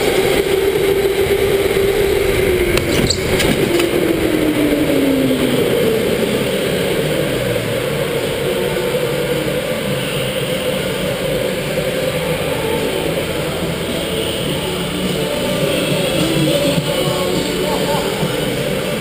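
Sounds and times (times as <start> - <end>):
electric kart motor whine: 0.0 - 19.0
rushing noise: 0.0 - 19.0.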